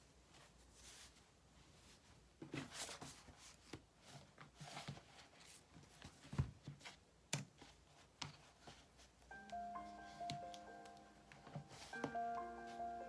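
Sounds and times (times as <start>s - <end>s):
rustling and handling noises: 0.0s - 13.0s.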